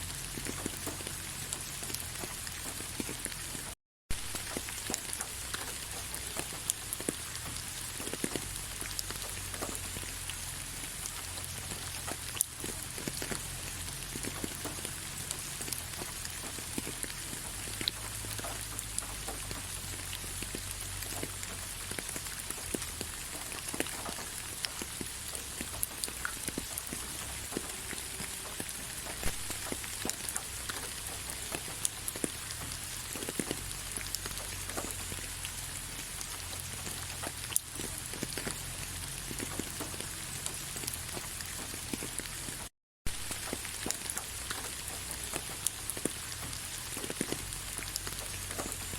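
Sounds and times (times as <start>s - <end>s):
soft rain patter: 0.0s - 48.9s.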